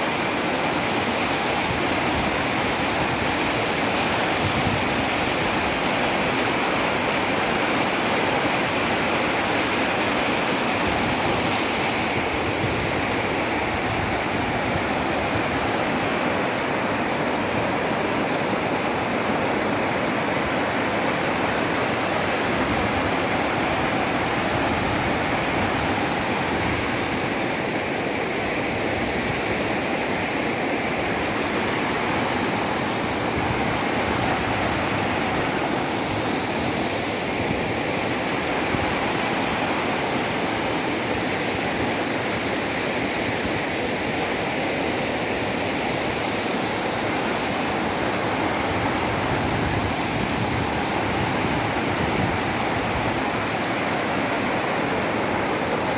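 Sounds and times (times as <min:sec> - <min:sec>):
waterfall and river rushing: 0:00.0 - 0:55.9.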